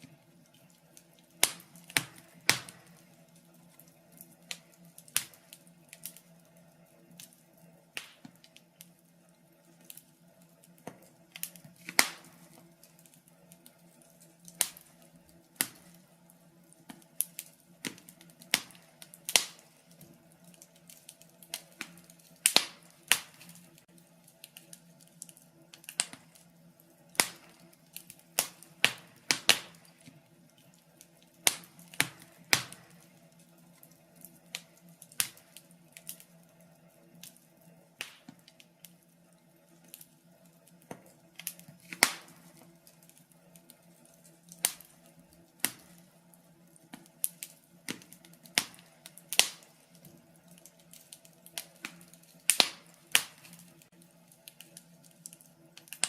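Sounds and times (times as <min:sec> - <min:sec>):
faint steady hum: 0:00.0 - 0:56.0
wood fire crackling: 0:00.0 - 0:56.0.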